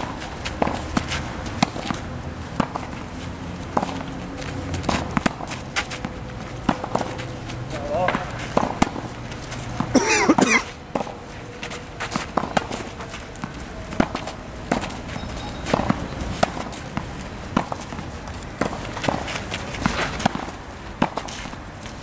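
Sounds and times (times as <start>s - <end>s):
footsteps: 0.0s - 22.0s
tennis balls bouncing on court: 0.0s - 22.0s
tennis balls struck with rackets: 0.0s - 22.0s.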